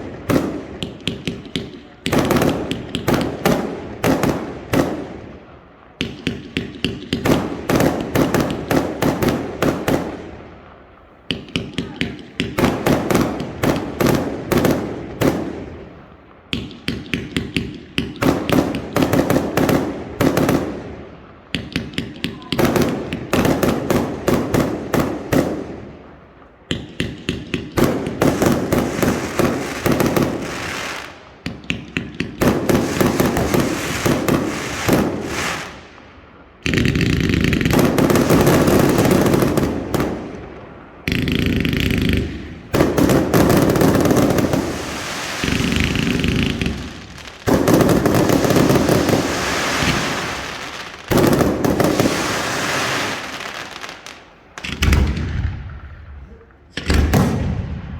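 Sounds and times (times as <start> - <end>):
fireworks crackling and hissing: 0.0 - 57.9
fireworks sharp bangs: 0.0 - 57.9.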